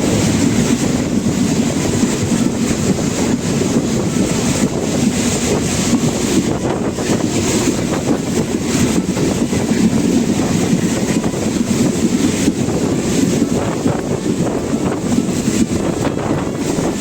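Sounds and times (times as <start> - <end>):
train rumble on board: 0.0 - 17.0
wind buffeting microphone: 0.0 - 17.0.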